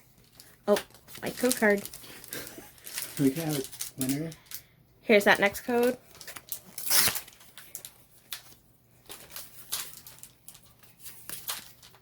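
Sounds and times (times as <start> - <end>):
cards and foil wrapper rustling: 0.0 - 12.0.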